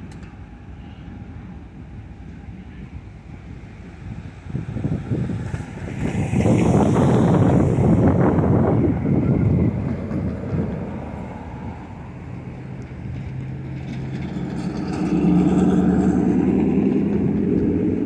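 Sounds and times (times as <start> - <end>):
vehicle engine hum: 0.0 - 18.0
wind buffeting microphone: 0.0 - 18.0.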